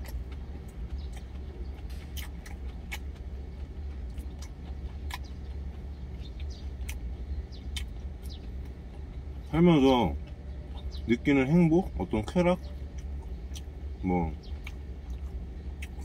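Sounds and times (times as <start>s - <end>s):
chewing and lip smacks: 0.0s - 16.0s
truck engine idling: 0.0s - 16.0s.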